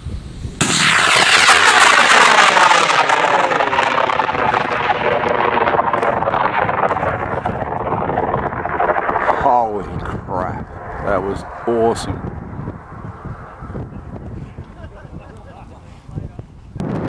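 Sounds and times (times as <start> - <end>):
rocket motor roaring: 0.6 - 15.2.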